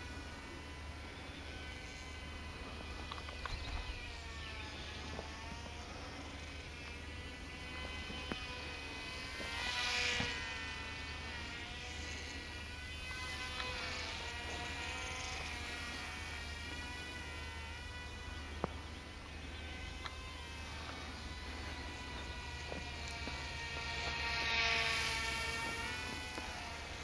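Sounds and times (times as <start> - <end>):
model plane motors whining: 0.0 - 27.0.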